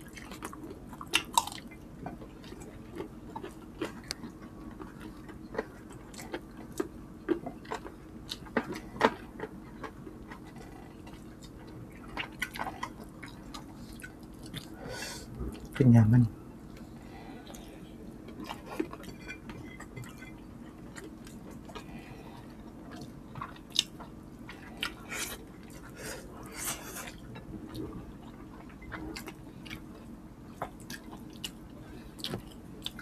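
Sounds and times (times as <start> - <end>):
people chewing food: 0.0 - 33.0.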